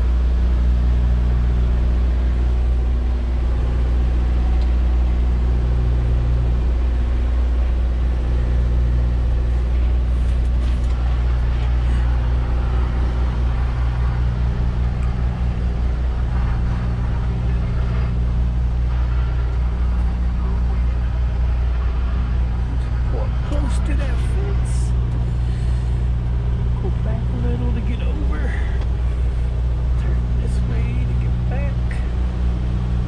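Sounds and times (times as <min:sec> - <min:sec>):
diesel truck engine at low revs: 0:00.0 - 0:33.0.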